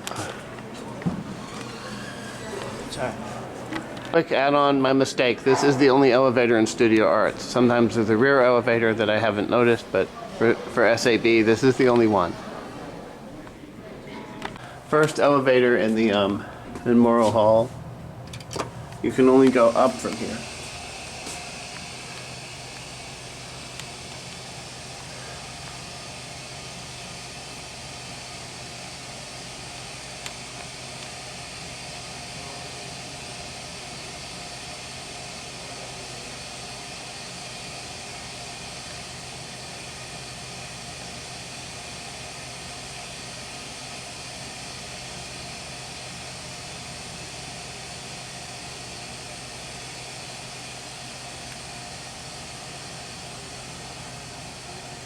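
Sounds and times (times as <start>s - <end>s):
elevator hum and hiss: 0.0s - 55.0s.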